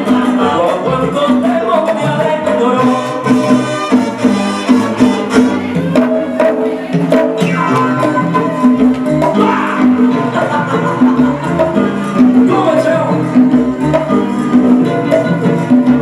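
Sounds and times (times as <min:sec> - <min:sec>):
salsa music over sound system: 0:00.0 - 0:16.0.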